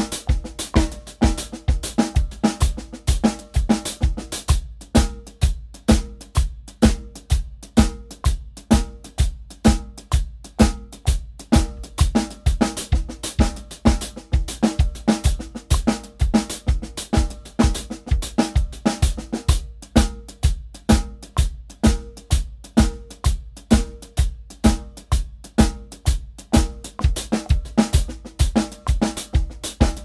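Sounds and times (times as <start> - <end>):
acoustic drum kit groove: 0.0 - 30.0.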